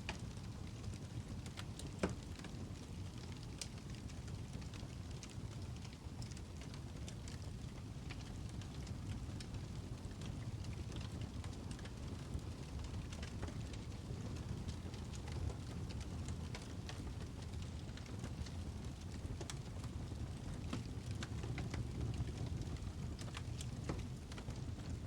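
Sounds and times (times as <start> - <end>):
low rumble of fire: 0.0 - 25.0
logs crackling and popping: 0.1 - 25.0.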